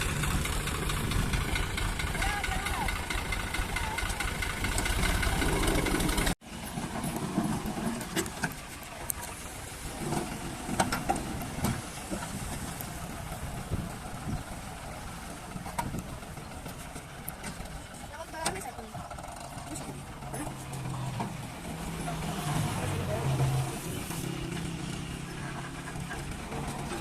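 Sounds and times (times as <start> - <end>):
low quiet engine: 0.0 - 27.0
tractor engine running: 0.0 - 27.0.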